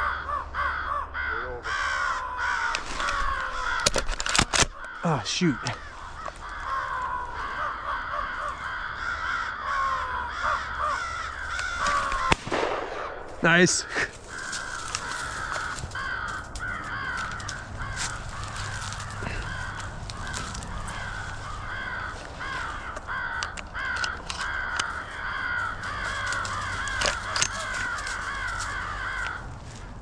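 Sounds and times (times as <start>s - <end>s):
crow call caws: 0.0s - 30.0s.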